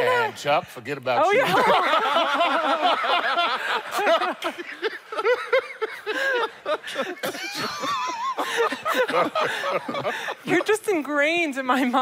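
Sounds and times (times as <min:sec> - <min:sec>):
people talking and chuckling: 0:01.2 - 0:11.4.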